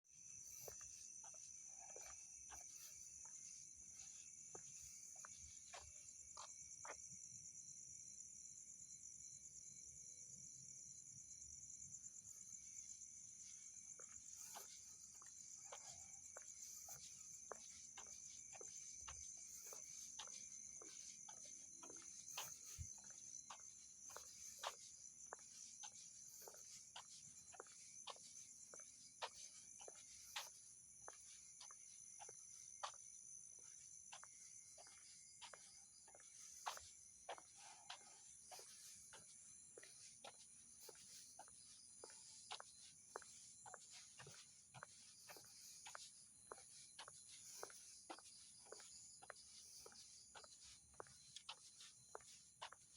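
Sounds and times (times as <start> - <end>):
crickets trilling: 0.1 - 52.9.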